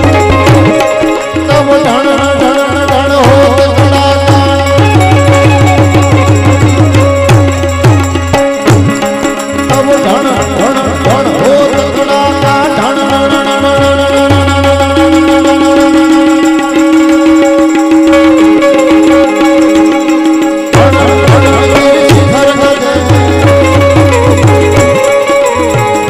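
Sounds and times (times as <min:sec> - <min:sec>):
harmonium held notes: 0:00.0 - 0:26.0
tabla strokes: 0:00.0 - 0:26.0.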